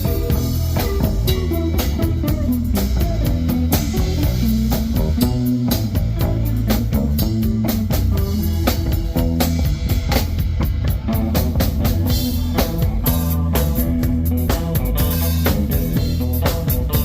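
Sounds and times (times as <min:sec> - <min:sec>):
bass guitar: 0:00.0 - 0:17.0
drum kit beat: 0:00.0 - 0:17.0
guitar: 0:00.0 - 0:17.0.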